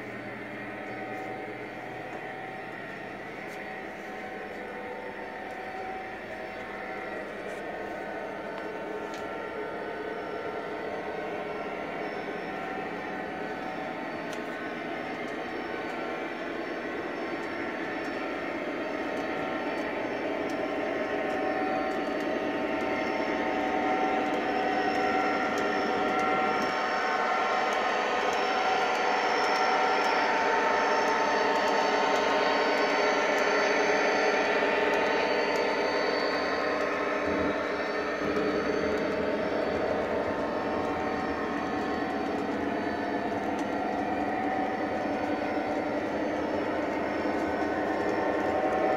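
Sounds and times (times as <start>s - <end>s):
model train whirring and rumbling: 0.0s - 48.9s.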